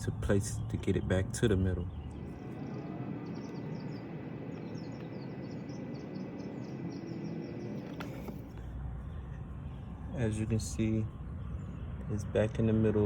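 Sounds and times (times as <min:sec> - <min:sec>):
birds chirping: 0:00.0 - 0:13.0
outdoor background noise: 0:00.0 - 0:13.0.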